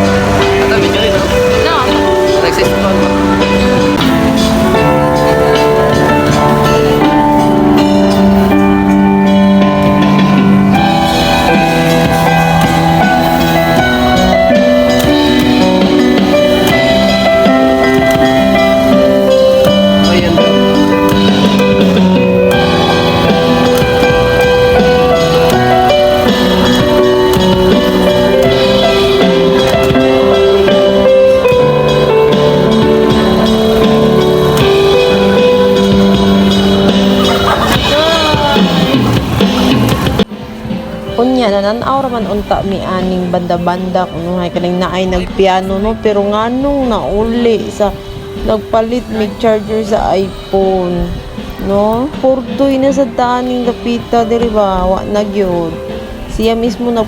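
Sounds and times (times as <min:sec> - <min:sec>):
instrumental music with light drums: 0:00.0 - 0:57.0.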